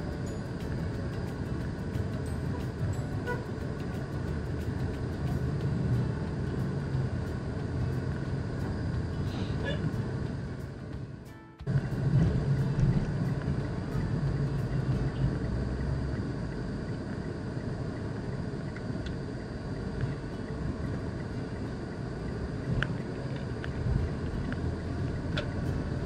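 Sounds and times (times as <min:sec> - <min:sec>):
engine and tyre rumble: 0:00.0 - 0:26.0.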